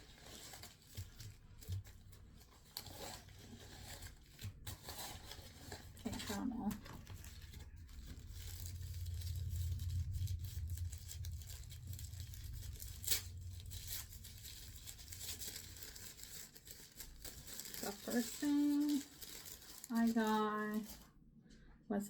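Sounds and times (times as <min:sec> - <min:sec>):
packaging rustling and tearing: 0:00.0 - 0:21.1.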